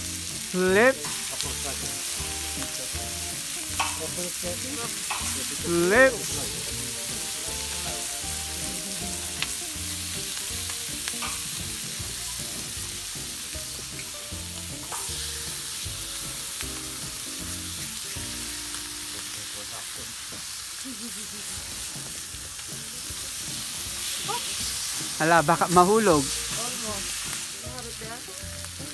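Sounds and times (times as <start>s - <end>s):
meat sizzling on hot plate: 0.0s - 28.9s.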